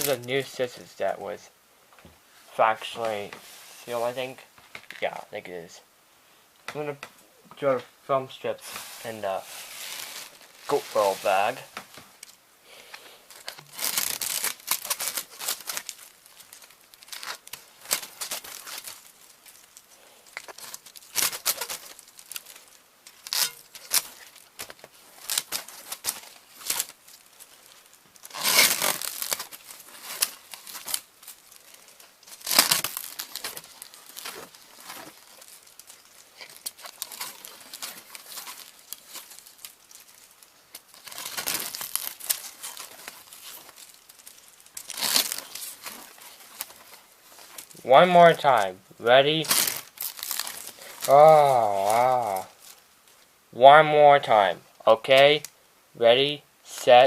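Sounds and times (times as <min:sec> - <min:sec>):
magnetic tape crinkling: 0:00.0 - 0:05.7, 0:06.6 - 0:55.8.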